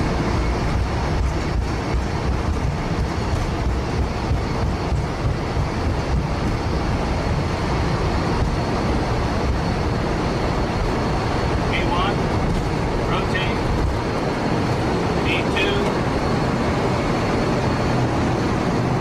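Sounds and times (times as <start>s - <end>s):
jet engines rumbling: 0.0s - 19.0s
rushing air: 0.0s - 19.0s
wheels on runway: 0.0s - 19.0s.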